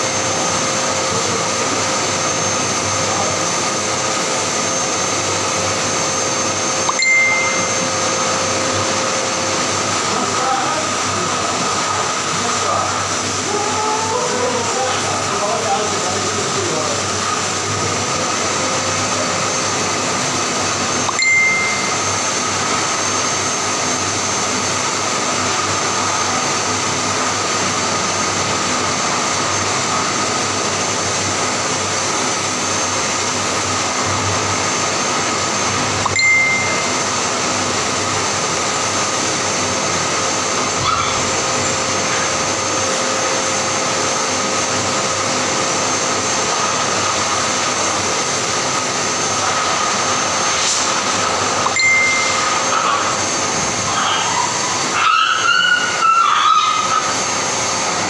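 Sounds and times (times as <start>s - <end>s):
blow dryer rushing air: 0.0s - 58.0s.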